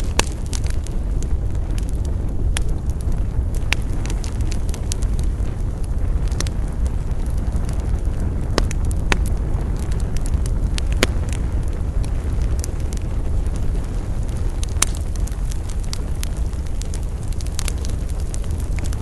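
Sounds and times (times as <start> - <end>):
low rumble of flames: 0.0 - 19.0
wood fire crackling and popping: 0.0 - 19.0.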